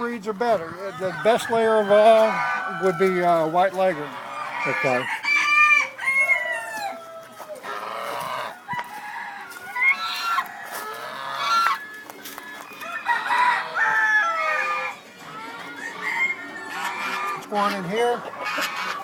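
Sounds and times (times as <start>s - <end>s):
hens clucking: 0.0s - 19.0s
roosters crowing: 0.4s - 19.0s.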